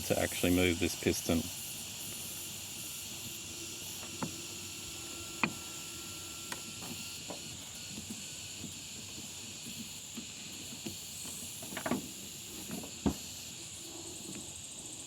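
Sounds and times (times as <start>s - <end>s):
compressed air hissing: 0.0s - 15.0s.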